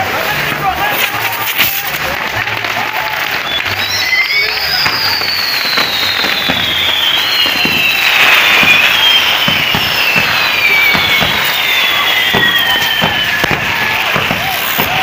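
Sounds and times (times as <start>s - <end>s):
fireworks popping and crackling: 0.0s - 15.0s
fireworks whistling down: 0.0s - 15.0s.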